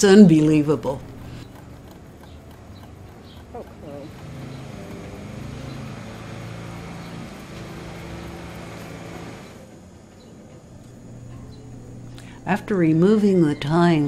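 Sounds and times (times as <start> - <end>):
faint hum: 0.0 - 14.0
motor engine droning: 0.0 - 14.0.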